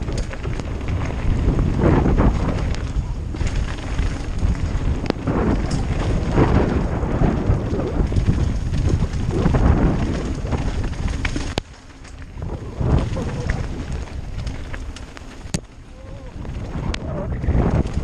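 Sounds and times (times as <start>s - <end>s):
bike clicks and knocks: 0.0s - 18.0s
tyres rumbling over rough trail: 0.0s - 18.0s
wind buffeting microphone: 0.0s - 18.0s.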